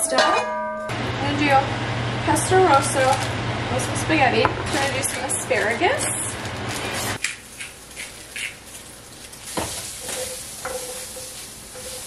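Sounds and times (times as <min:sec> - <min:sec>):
vegetables sizzling in frying pan: 0:01.0 - 0:12.0.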